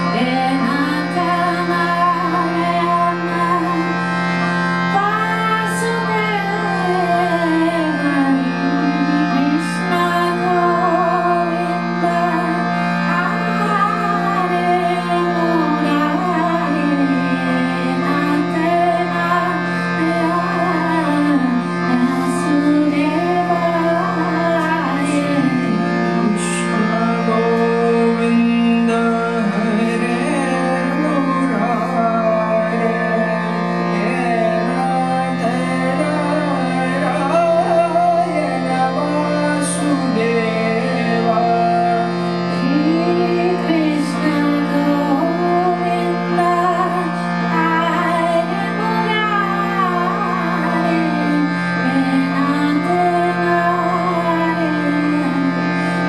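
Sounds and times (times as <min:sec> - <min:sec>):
harmonium drone: 0:00.0 - 0:56.0
person singing devotional melody: 0:00.0 - 0:56.0.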